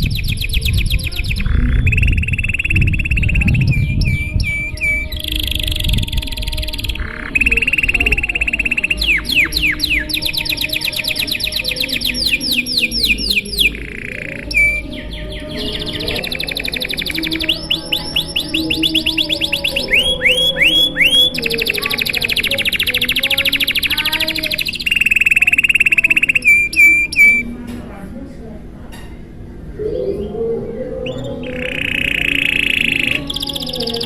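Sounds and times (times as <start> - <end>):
canary singing trills: 0.0 - 27.6, 29.7 - 34.0.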